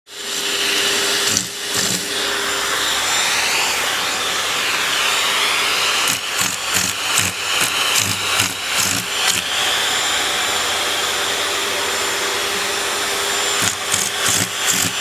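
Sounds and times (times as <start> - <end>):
vacuum cleaner motor whine: 0.1 - 15.0.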